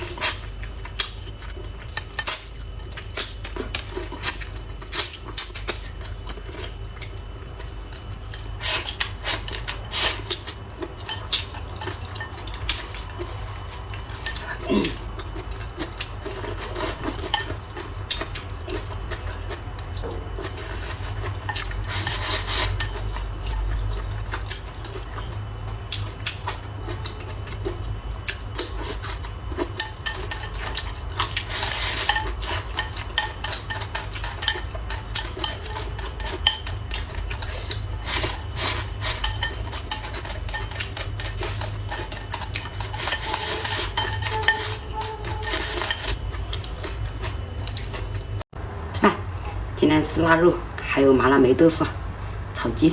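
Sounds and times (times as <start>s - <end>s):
utensils clinking on dishes: 0.0s - 25.3s, 26.6s - 48.1s.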